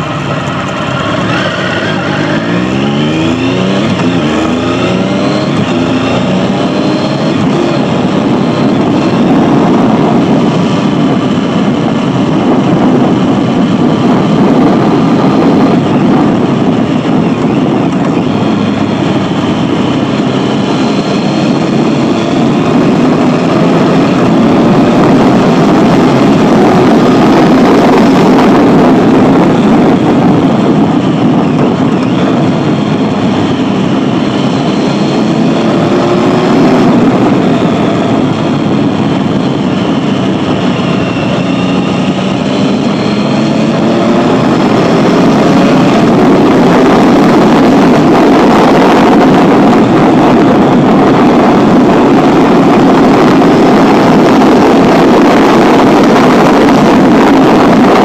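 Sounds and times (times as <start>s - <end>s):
vehicle engine running: 0.0s - 58.0s
wind noise on microphone: 0.0s - 58.0s.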